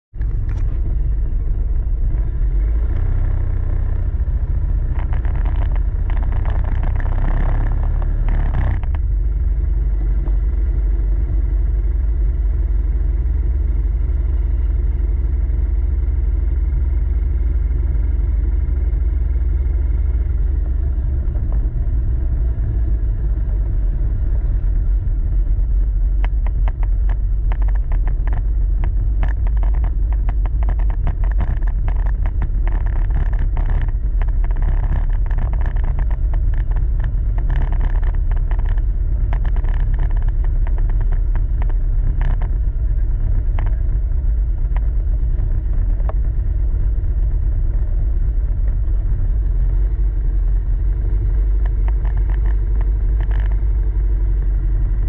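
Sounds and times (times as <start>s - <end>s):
vehicle driving on paved road: 0.0s - 55.0s.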